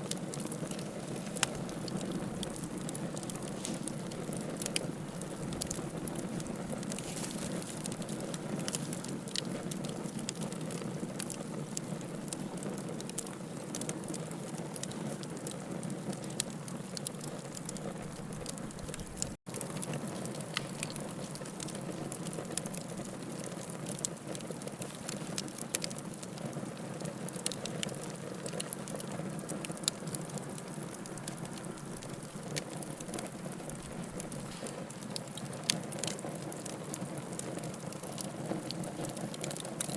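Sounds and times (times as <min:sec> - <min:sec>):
firewood crackling and popping: 0:00.0 - 0:39.9
rush of flames: 0:00.0 - 0:39.9.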